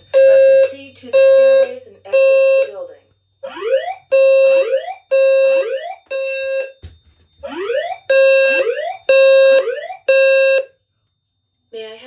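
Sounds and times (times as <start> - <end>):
fire alarm buzzy beeps: 0.0 - 10.8.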